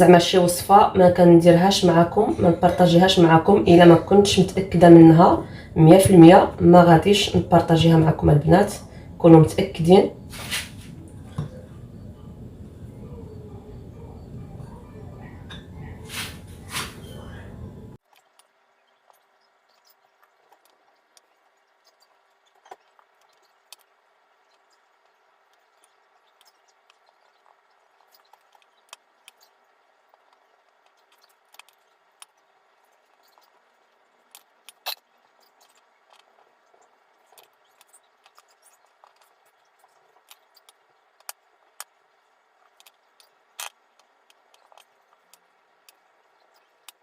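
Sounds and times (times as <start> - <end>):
room hum: 0.0 - 47.0.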